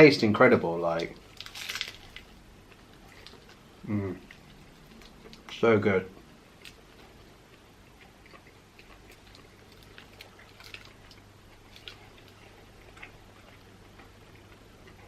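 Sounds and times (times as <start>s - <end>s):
faint chewing: 0.9s - 15.0s.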